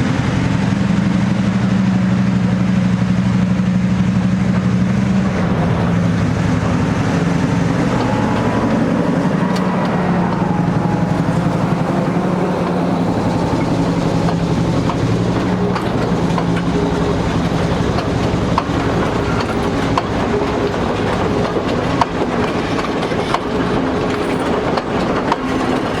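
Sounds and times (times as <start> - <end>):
diesel locomotive engine running: 0.0 - 26.0.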